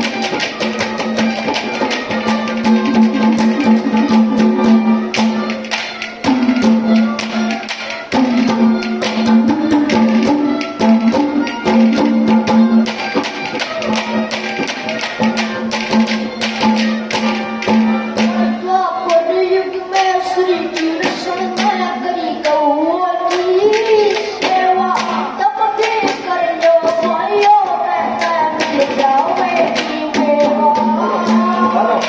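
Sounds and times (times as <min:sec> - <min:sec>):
fast hand drum percussion: 0:00.0 - 0:22.6, 0:23.3 - 0:32.0.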